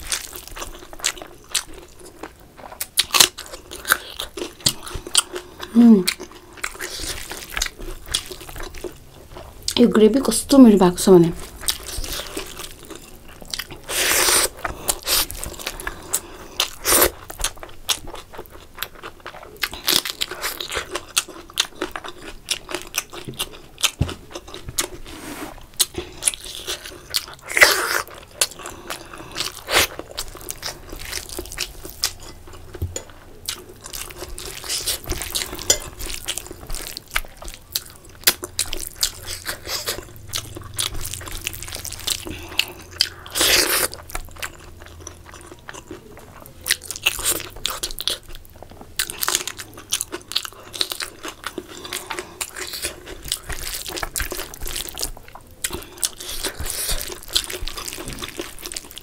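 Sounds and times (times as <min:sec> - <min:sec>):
close chewing and mouth sounds: 0:00.0 - 0:59.0.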